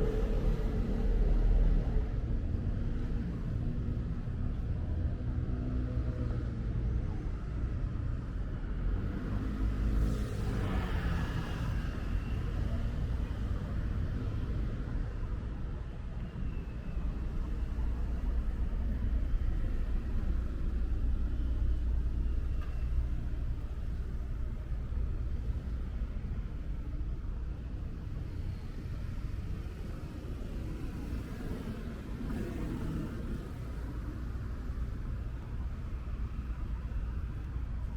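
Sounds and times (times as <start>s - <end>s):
city street traffic rumble: 0.0s - 37.9s.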